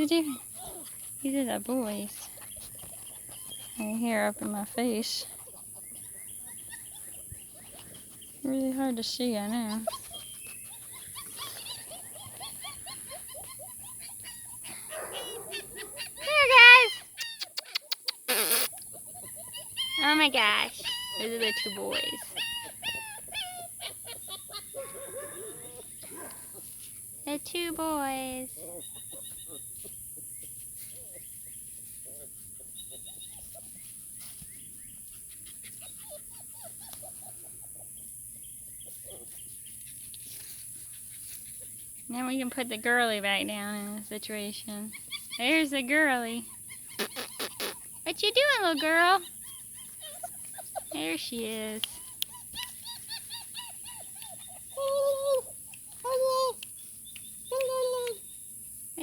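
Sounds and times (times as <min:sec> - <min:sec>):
puppies squeaking and whimpering: 0:00.0 - 0:58.4.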